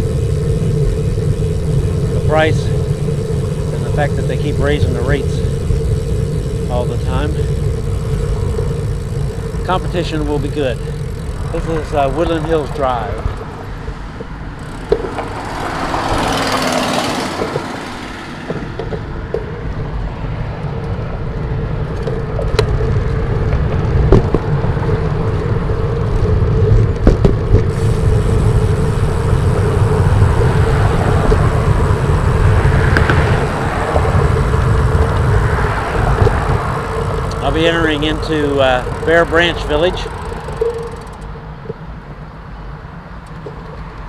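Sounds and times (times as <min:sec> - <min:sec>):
wind buffeting microphone: 0:00.0 - 0:41.1
tyre hum on pavement: 0:00.0 - 0:44.0.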